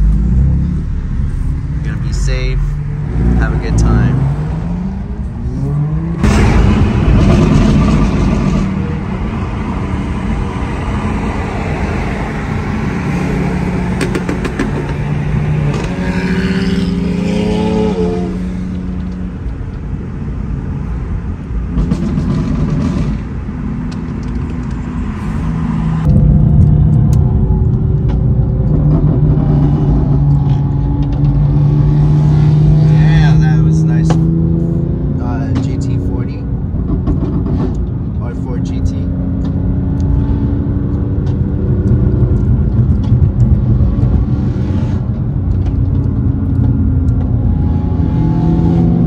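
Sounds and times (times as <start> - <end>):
engine revving: 0.0 - 19.1, 24.2 - 49.0
car engines and exhausts: 0.0 - 49.0.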